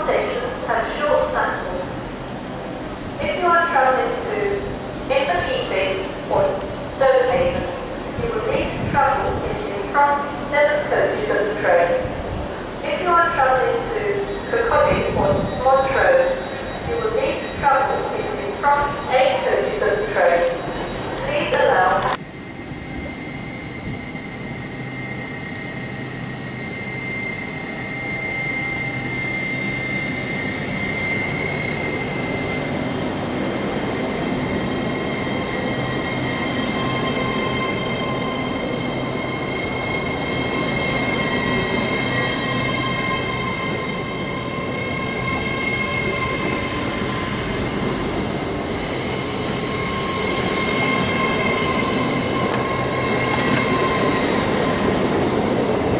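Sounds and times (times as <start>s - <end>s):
train rumbling: 0.0s - 55.9s.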